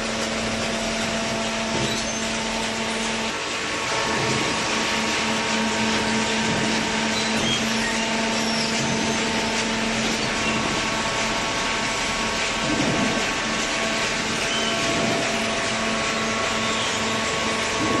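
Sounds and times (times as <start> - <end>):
hydraulic power unit humming: 0.0 - 18.0.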